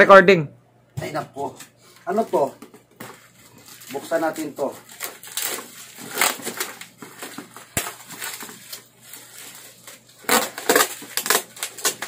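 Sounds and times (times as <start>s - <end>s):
plastic packaging crinkling: 1.4s - 12.0s.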